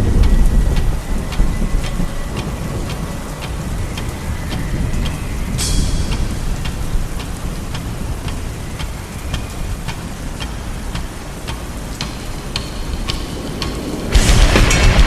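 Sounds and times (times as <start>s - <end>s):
raindrop taps: 0.0s - 14.3s
rain hissing: 0.0s - 15.0s.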